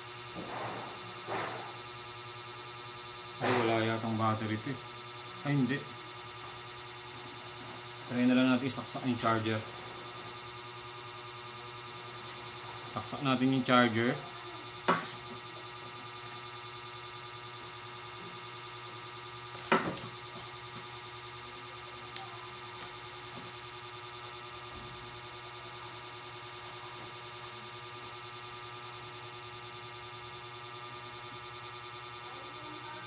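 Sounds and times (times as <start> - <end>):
steady hum with fixed tones: 0.0 - 33.0.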